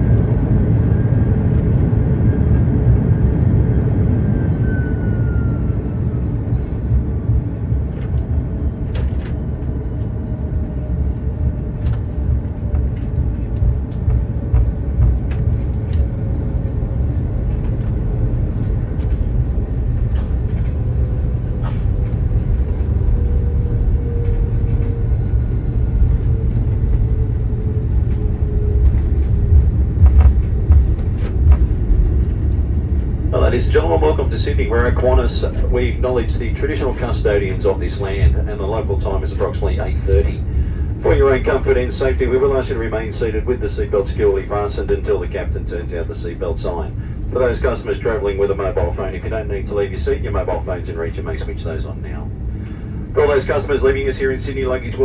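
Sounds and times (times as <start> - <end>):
aircraft wheels and engines rumbling: 0.0 - 55.0
faint jet engine whine: 0.0 - 55.0.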